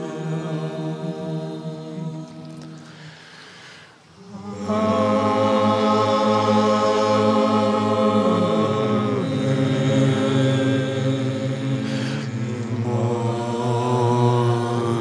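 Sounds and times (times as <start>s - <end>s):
slow chanted singing: 0.0s - 15.0s.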